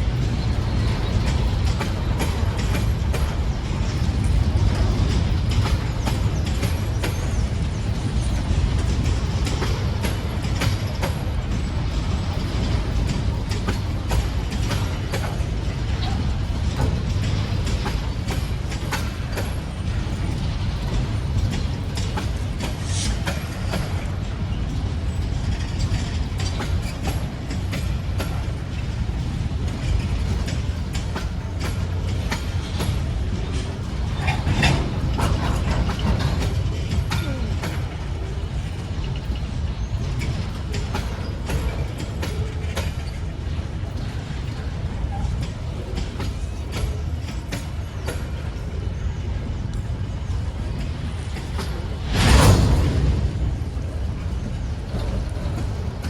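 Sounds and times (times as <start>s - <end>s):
freight train rumbling: 0.0s - 56.0s
wheels clacking over rail joints: 0.0s - 56.0s.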